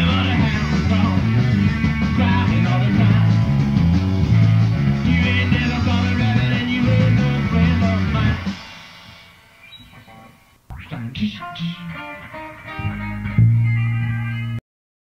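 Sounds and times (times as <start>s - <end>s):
busy bass line: 0.0s - 8.6s, 9.8s - 14.6s
rock band playing: 0.0s - 10.5s, 11.2s - 14.6s.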